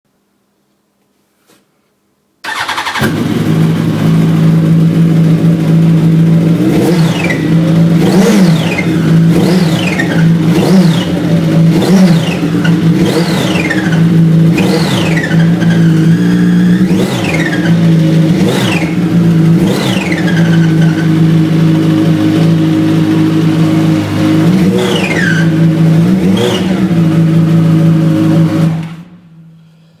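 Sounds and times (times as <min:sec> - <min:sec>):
motorcycle engine running: 0:02.5 - 0:29.6.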